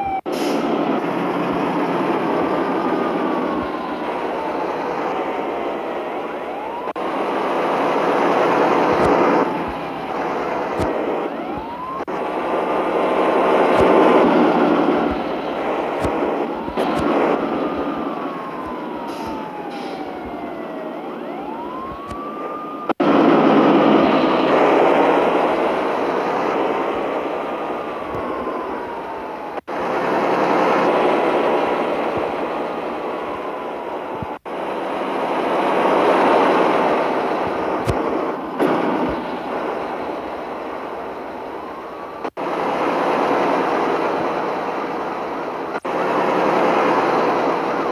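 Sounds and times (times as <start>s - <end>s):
road vehicle noise: 0.0s - 47.9s
wailing siren tone: 0.0s - 47.9s.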